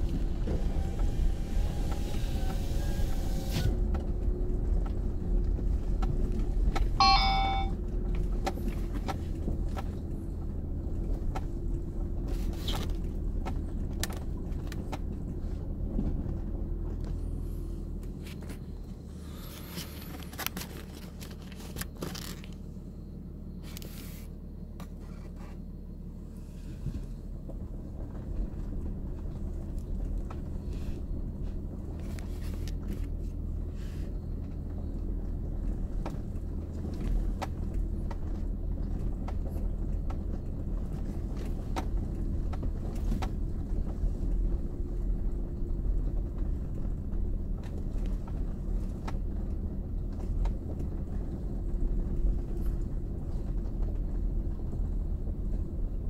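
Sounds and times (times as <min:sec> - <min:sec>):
car driving on rough dirt trail: 0:00.0 - 0:56.0.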